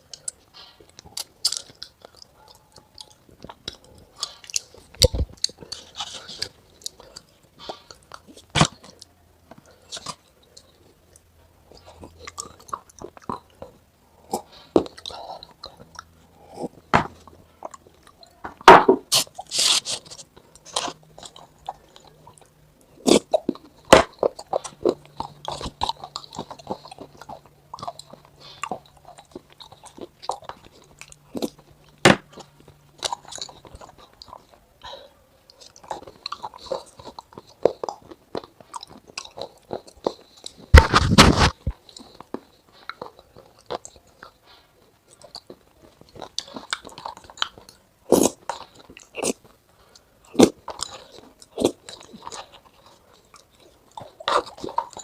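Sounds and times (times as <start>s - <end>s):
chewing crunchy food: 0.0s - 55.0s.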